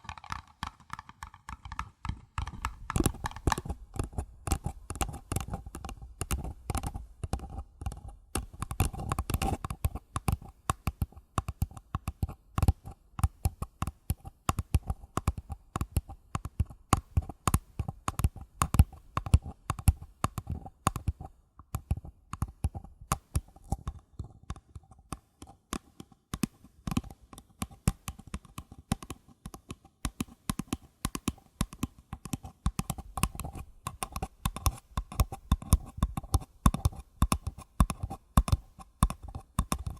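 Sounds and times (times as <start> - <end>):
fingers tapping on paper cups: 0.0 - 39.9.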